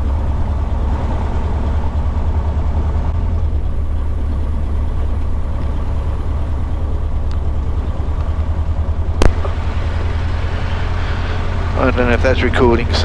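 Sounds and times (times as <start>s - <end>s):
piston aircraft engine rumbling: 0.0s - 13.0s.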